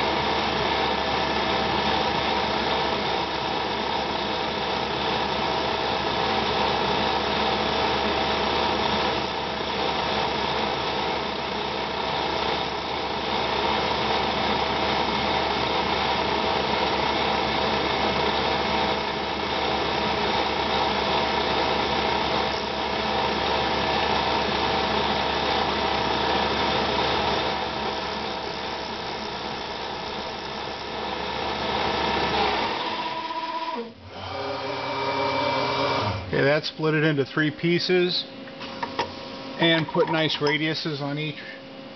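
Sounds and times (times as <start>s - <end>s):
milling machine spindle whine: 0.0s - 41.9s.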